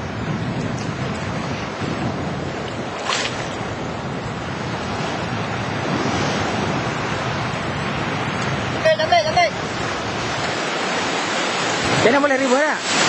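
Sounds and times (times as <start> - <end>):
sea surf breaking on beach: 0.0 - 13.0
wind on microphone: 0.0 - 13.0.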